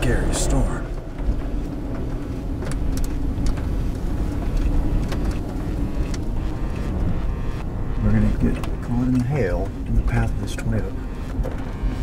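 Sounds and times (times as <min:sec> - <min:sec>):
vehicle engine hum: 0:00.0 - 0:12.0
wind rumble: 0:00.0 - 0:12.0
sharp ticks: 0:01.0 - 0:12.0.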